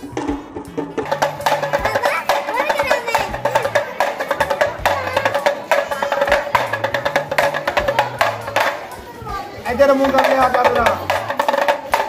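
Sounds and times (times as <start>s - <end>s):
pellet drum rattling: 0.1s - 12.0s.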